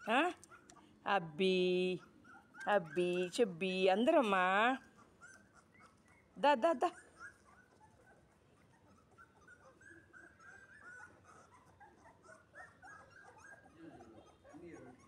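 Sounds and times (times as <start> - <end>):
puppies whimpering: 2.0 - 3.5, 4.1 - 15.0.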